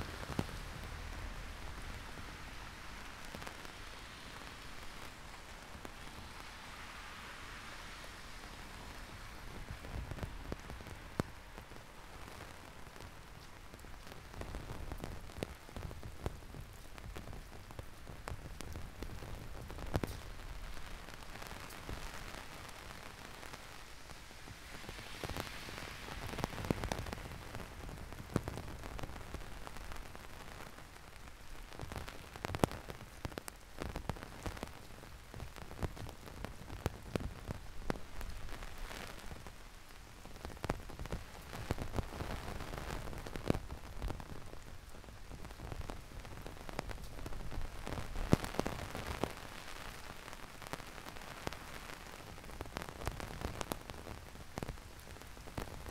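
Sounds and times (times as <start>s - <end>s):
raindrops tapping nearby: 0.0s - 7.0s, 7.8s - 23.8s, 24.4s - 55.9s
heavy rain falling: 0.0s - 55.9s.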